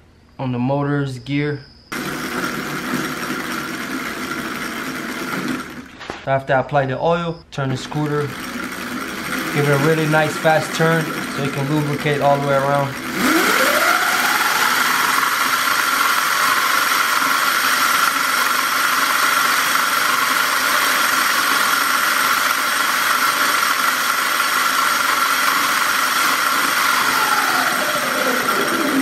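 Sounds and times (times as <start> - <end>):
electric motor whine: 1.9 - 6.1, 7.8 - 29.0.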